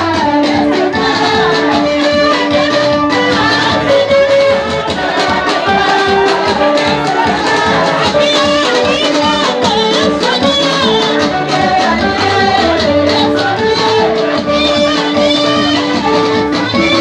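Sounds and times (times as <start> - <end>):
percussion beat: 0.0 - 17.0
voices singing: 0.0 - 17.0
held instrument notes: 0.4 - 17.0.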